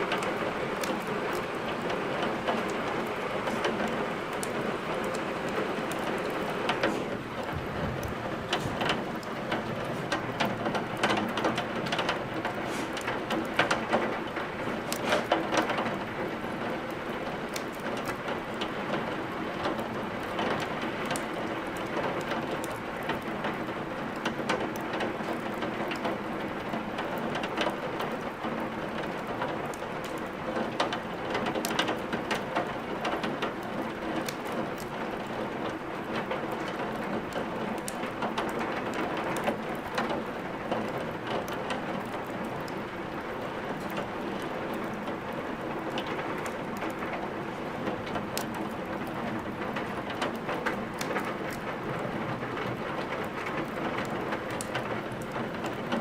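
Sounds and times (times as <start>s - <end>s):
steady rain falling: 0.0s - 56.0s
wood fire crackling: 0.0s - 56.0s.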